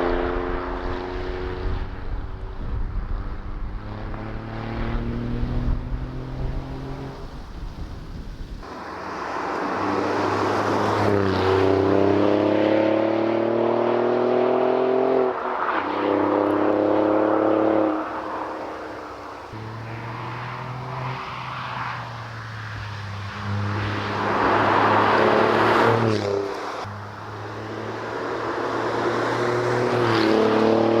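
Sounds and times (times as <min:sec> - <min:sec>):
car engine accelerating hard: 0:00.0 - 0:07.5, 0:08.6 - 0:20.9, 0:23.3 - 0:31.0.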